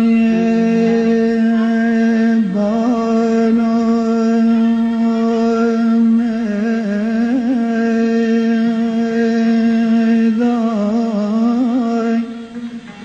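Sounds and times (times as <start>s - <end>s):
man singing long held note: 0.0s - 13.0s.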